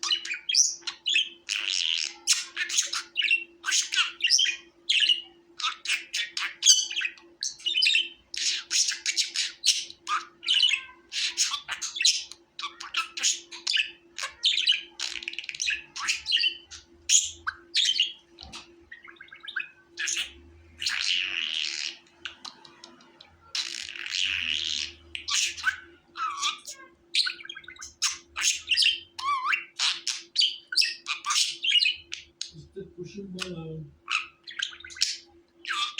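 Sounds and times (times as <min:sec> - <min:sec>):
budgerigars chirping and squawking: 0:00.0 - 0:35.9
budgerigars warbling: 0:00.0 - 0:35.9.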